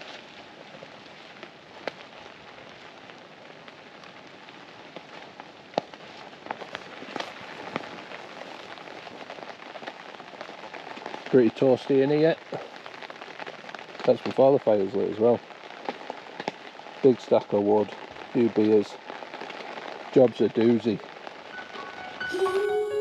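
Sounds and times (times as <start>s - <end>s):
rain on tent fabric: 0.0s - 23.0s.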